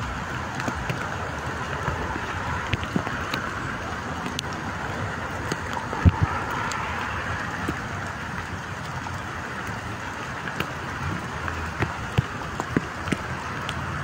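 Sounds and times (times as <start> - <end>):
heavy rain on a car: 0.0 - 14.0.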